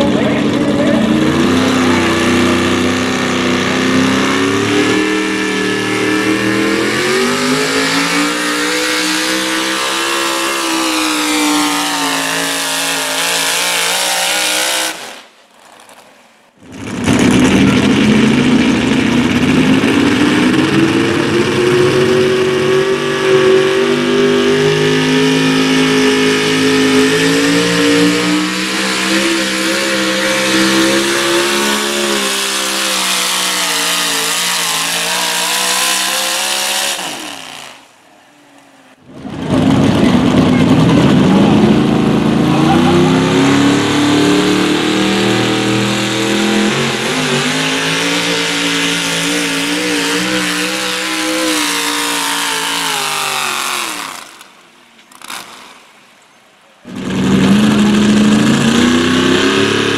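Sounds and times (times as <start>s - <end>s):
truck engines at high revs: 0.0s - 59.9s.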